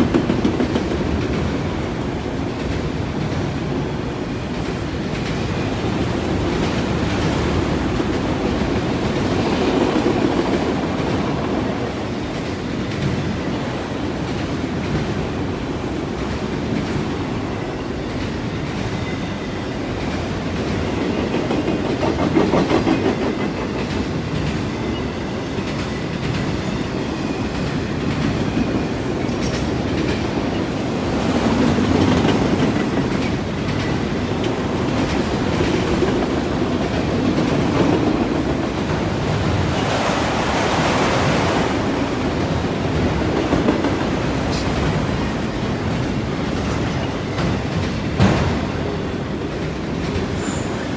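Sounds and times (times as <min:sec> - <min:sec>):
freight train rolling on rails: 0:00.0 - 0:50.9.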